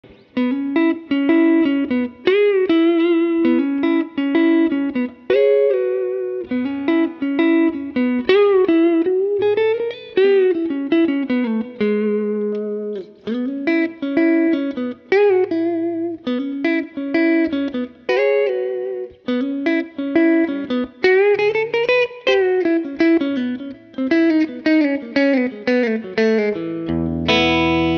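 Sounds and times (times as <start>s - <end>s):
twangy electric guitar riff: 0.0s - 27.9s.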